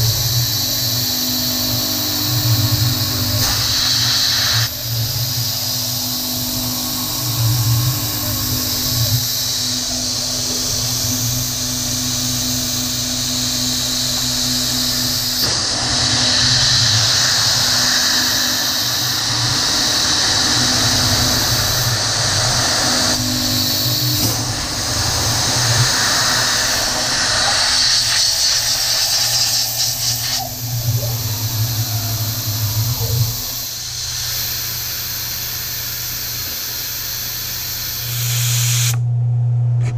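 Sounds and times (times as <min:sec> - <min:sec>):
coolant nozzle hiss: 0:00.0 - 0:39.0
milling machine cutting metal: 0:00.0 - 0:39.0
spindle motor hum: 0:00.0 - 0:39.9.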